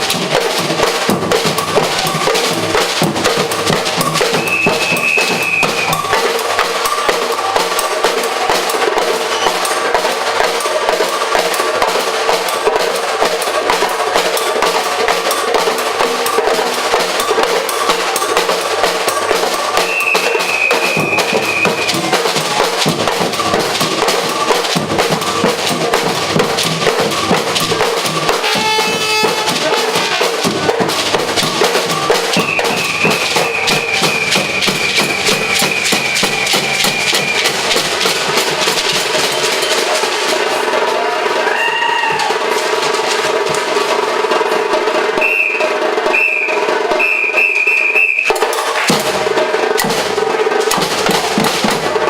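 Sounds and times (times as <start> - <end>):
percussion band drumming: 0.0 - 52.0.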